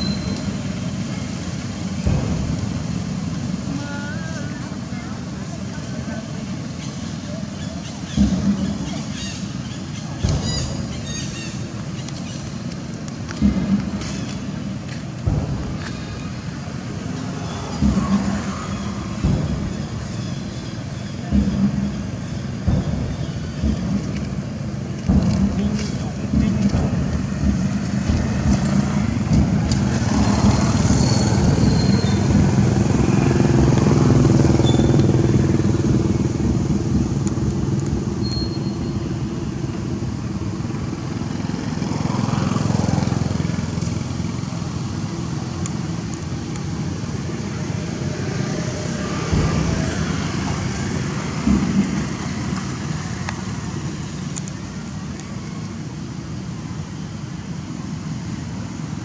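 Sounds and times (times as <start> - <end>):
vehicle engines humming: 0.0 - 59.0.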